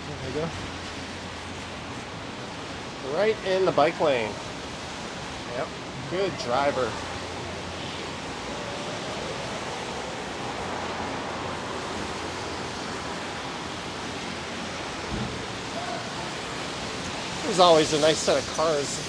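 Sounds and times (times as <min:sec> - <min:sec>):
pouring rain hiss: 0:00.0 - 0:19.0.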